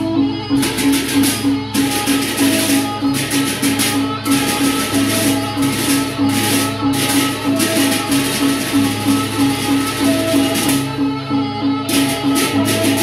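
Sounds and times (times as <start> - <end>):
large barrel drums beating: 0.0 - 11.1, 11.8 - 13.0
repeating gong note: 0.0 - 13.0
hand cymbals crashing: 0.4 - 11.2, 11.8 - 13.0.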